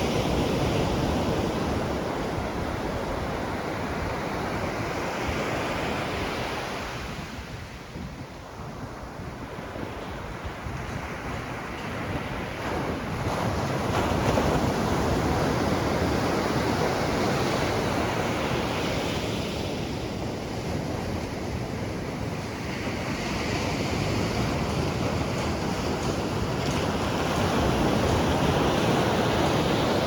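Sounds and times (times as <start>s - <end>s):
waves breaking on beach: 0.0s - 30.0s
wind buffeting microphone: 0.0s - 30.0s.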